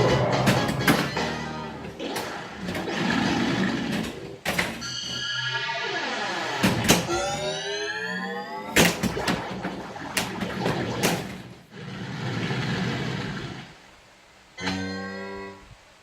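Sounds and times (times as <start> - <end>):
pinball electronic sweeps: 0.0 - 13.8.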